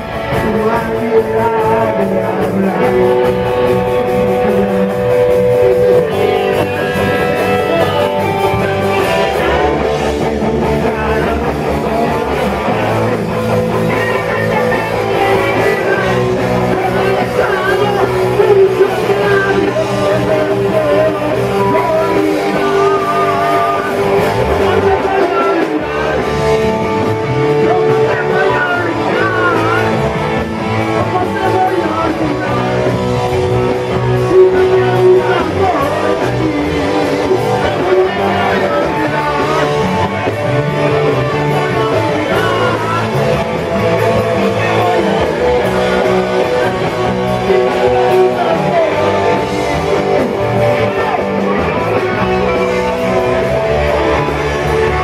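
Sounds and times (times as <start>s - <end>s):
person singing: 0.0s - 55.0s
rock music with electric guitars: 0.0s - 55.0s.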